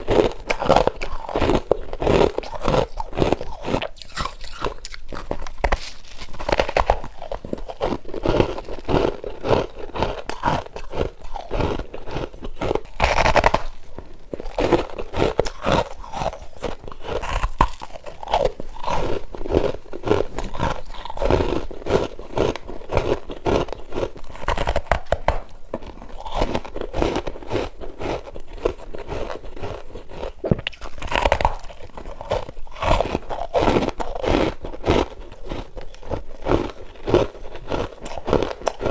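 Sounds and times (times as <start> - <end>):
crunching ice: 0.0 - 38.9.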